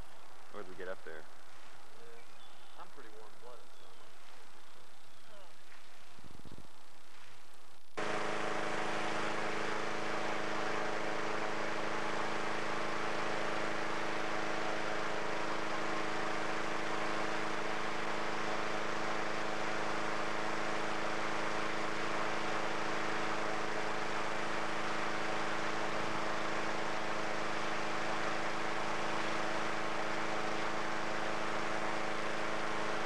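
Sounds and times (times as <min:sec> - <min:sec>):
engine-driven inflator fan running: 0:00.0 - 0:33.0.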